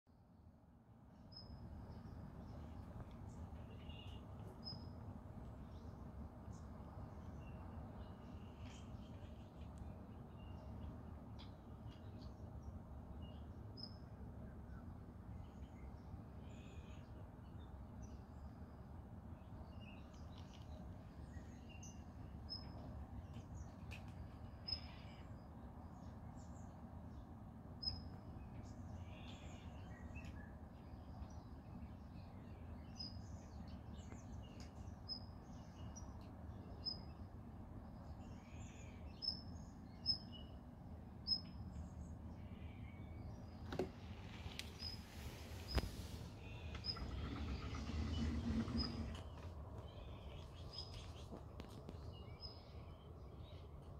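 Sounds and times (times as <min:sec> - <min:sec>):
small birds chirping: 0:01.2 - 0:53.9.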